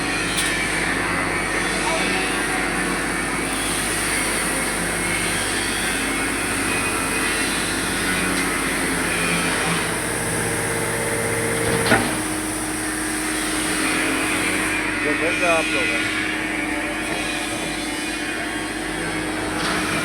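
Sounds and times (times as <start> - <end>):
press machine humming: 0.0 - 20.0.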